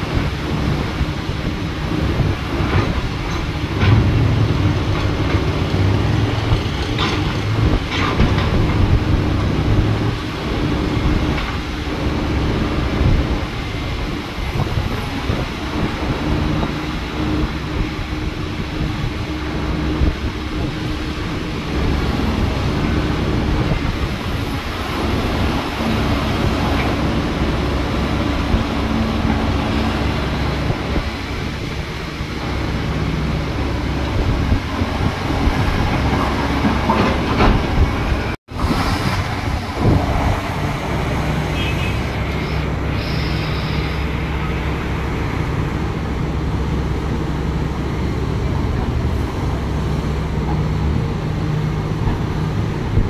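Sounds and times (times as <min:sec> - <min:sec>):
diesel excavator engine rumbling: 0:00.0 - 0:53.0.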